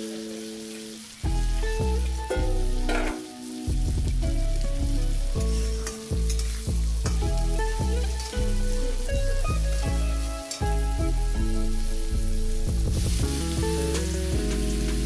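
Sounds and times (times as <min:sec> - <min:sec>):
food sizzling in a pan: 0:00.0 - 0:15.0
background music with bass line: 0:01.2 - 0:15.0.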